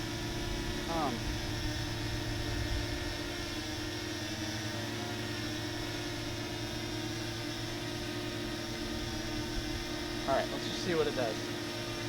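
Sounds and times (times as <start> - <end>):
quadcopter hovering: 0.0 - 12.0.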